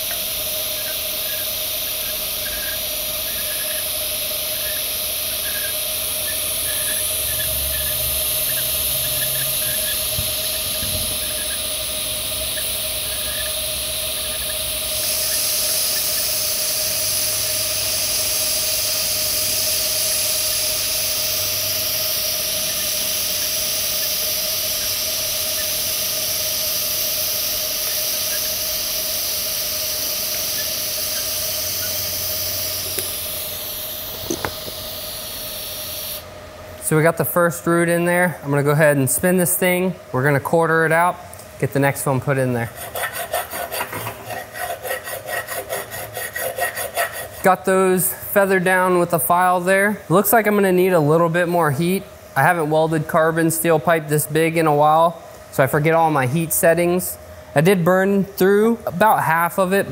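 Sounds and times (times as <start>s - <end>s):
welding arc hissing: 0.0s - 39.9s, 40.6s - 59.9s.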